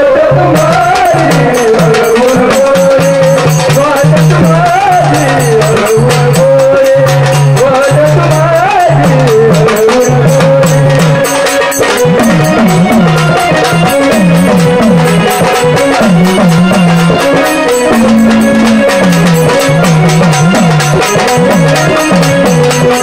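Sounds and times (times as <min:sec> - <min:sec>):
fast rattling percussion: 0:00.2 - 0:23.0
wavering lead melody: 0:00.5 - 0:23.0.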